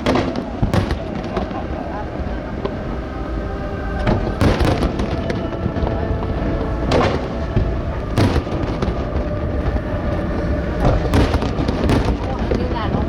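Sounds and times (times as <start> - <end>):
fireworks bursting: 0.0 - 3.0, 3.9 - 13.0.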